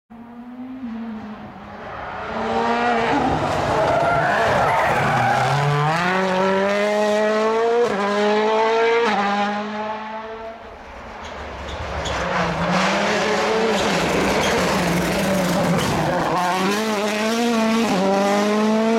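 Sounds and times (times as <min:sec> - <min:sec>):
rally car engine accelerating: 0:00.1 - 0:18.9.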